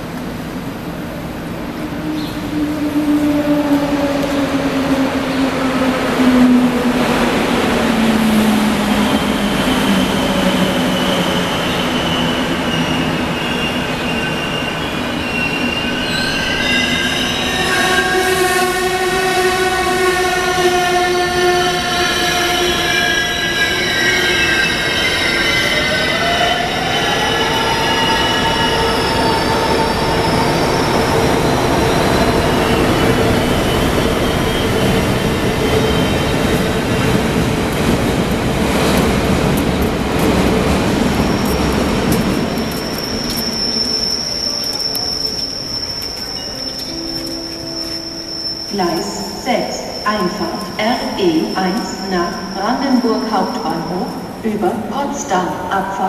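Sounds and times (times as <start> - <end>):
train rolling past platform: 0.0 - 56.0.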